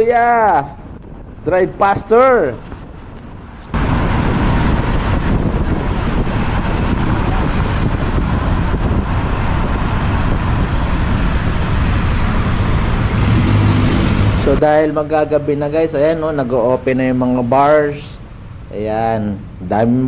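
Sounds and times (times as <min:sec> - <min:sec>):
motorbike engine and road noise: 0:00.7 - 0:20.0.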